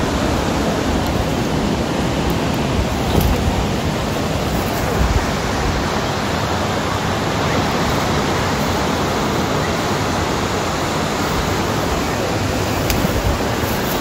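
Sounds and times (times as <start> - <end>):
sea surf rushing: 0.0 - 14.0.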